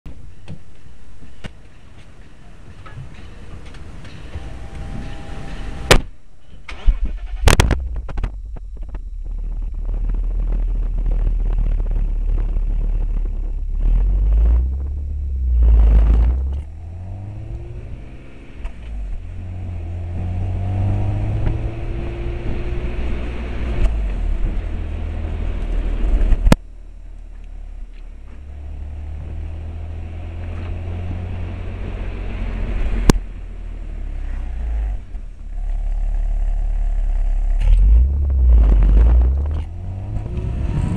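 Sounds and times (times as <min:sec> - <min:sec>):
car engine and exhaust revving: 0:03.6 - 0:40.9.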